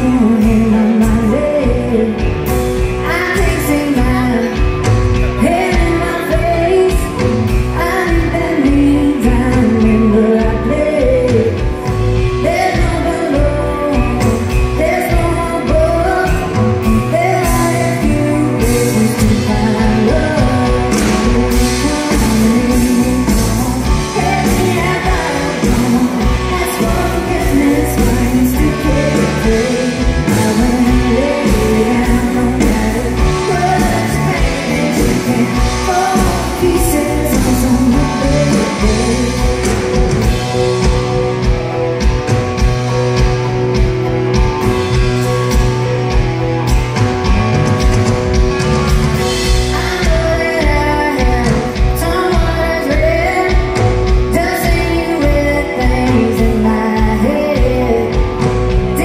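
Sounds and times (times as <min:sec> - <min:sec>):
woman singing: 0:00.0 - 0:44.9, 0:49.4 - 0:59.0
rock band playing: 0:00.0 - 0:59.0.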